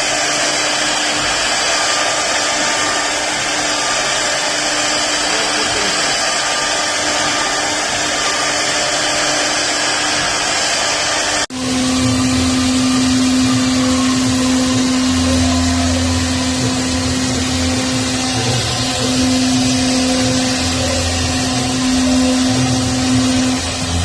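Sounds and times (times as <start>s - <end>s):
router whirring: 0.0s - 24.0s.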